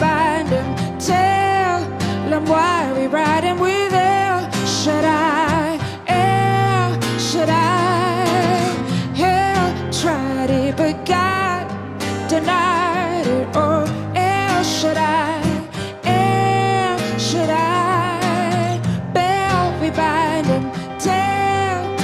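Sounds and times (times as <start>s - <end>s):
strummed acoustic guitar: 0.0s - 22.0s
woman singing with vibrato: 0.0s - 22.0s.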